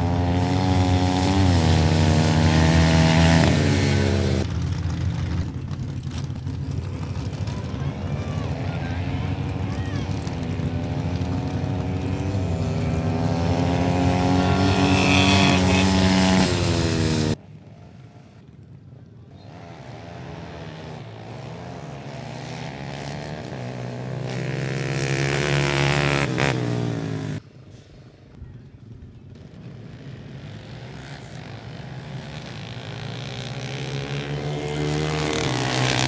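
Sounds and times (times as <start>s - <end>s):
quad engines revving: 0.0s - 27.4s, 29.0s - 36.0s.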